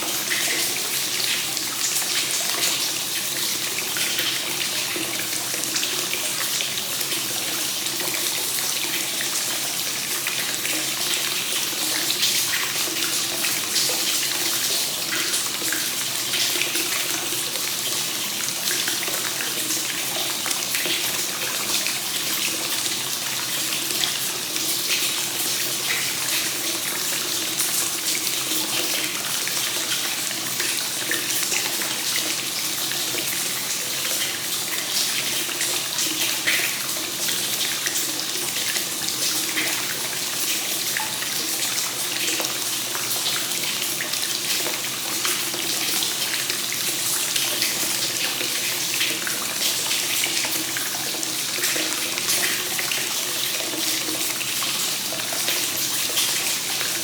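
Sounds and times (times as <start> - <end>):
water flowing and splashing into bath: 0.0 - 57.0.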